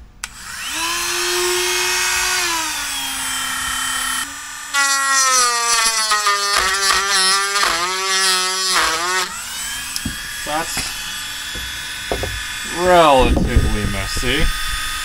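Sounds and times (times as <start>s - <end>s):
rotary tool motor whine: 0.2s - 15.0s
router bit cutting wood: 0.2s - 15.0s.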